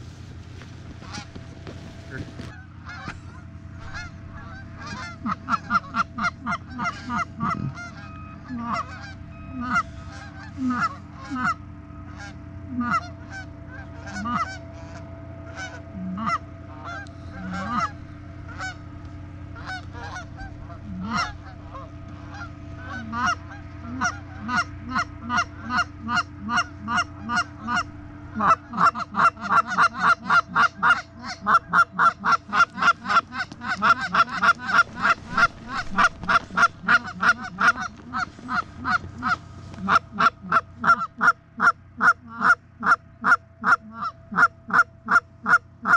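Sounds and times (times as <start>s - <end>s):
goose honking and clucking: 0.0s - 45.9s.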